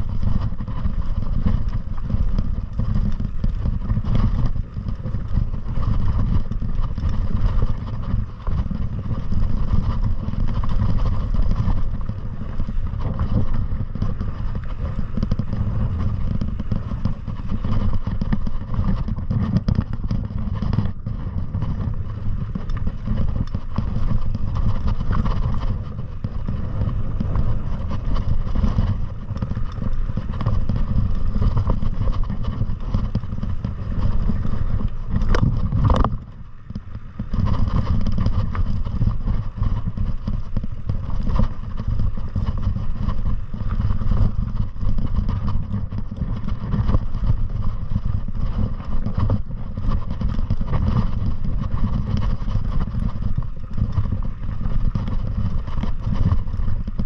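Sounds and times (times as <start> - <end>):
rattling over rough ground: 0.0 - 57.0
wind rumble: 0.0 - 57.0.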